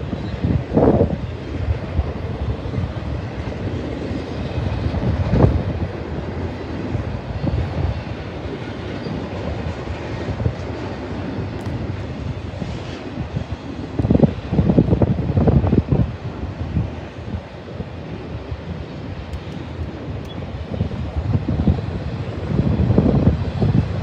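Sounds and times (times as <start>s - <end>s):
freight train wheels on rails: 0.0s - 24.0s
wind noise on microphone: 0.0s - 24.0s.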